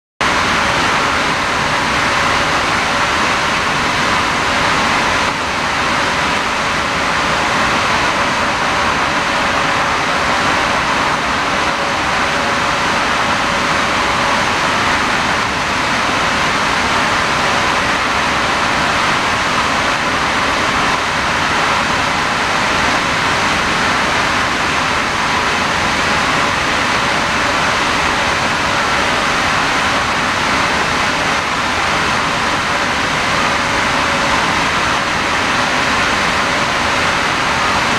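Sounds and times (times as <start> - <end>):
machinery roar: 0.2 - 37.9.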